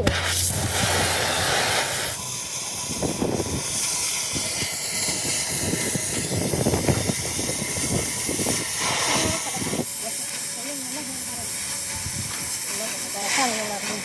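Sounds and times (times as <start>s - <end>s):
welding arc hissing and crackling: 0.0s - 14.0s.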